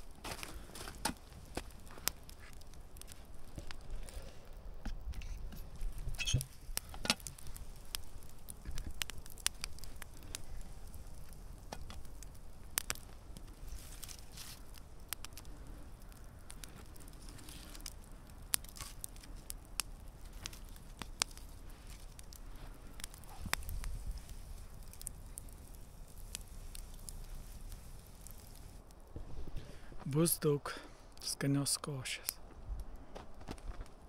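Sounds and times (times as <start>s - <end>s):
wood popping and snapping: 0.0s - 30.0s, 32.4s - 34.0s
campfire crackling: 0.0s - 34.0s.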